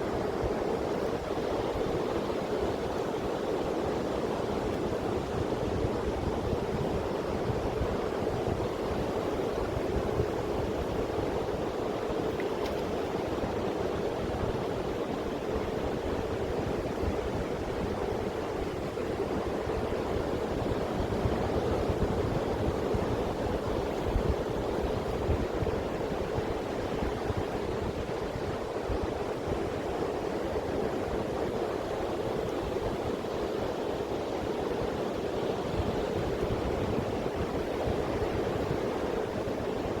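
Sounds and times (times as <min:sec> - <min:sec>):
sea surf washing onto beach: 0:00.0 - 0:40.0
wind rumble on microphone: 0:00.0 - 0:40.0.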